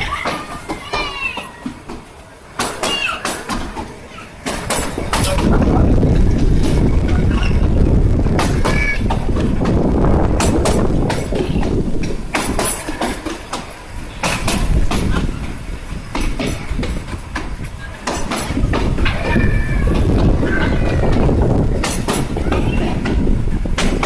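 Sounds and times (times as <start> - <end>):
train carriage rumbling on track: 0.0 - 24.0
wheels and couplings clicking: 0.0 - 24.0.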